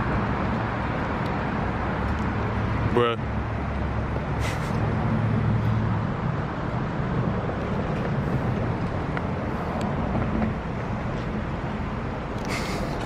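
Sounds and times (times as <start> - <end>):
road noise hiss: 0.0 - 13.0.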